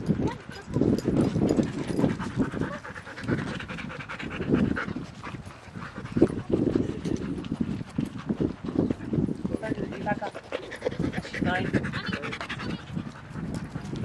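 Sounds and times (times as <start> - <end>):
dog panting: 0.2 - 14.0.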